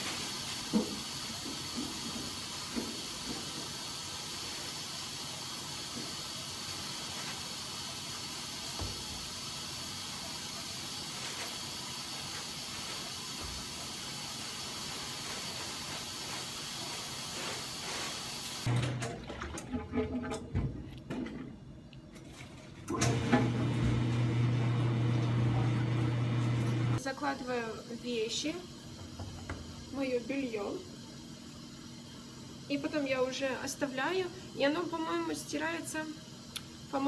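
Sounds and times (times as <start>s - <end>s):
washing machine filling with water: 0.0s - 21.6s, 22.8s - 37.0s.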